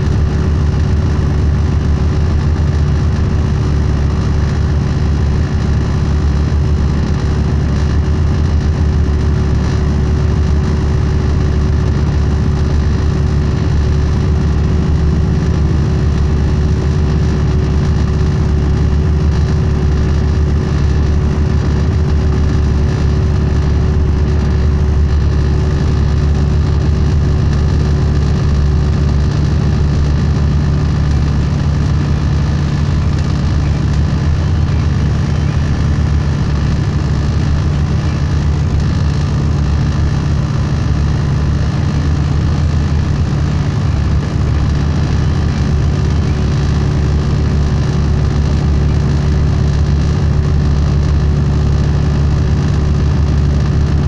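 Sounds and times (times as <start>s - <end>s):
diesel engine cruising: 0.0s - 54.0s.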